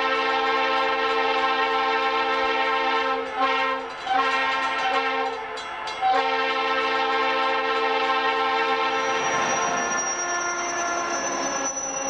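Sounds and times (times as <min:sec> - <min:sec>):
locomotive air horn chord: 0:00.0 - 0:11.9.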